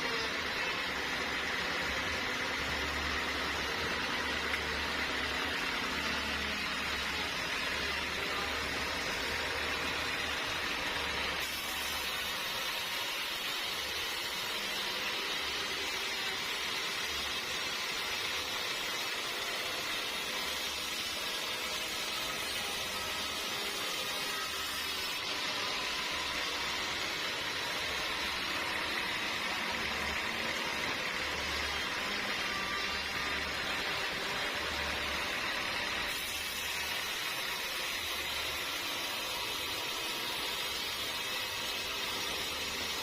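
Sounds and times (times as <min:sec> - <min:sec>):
sawmill machinery running: 0:00.0 - 0:43.0.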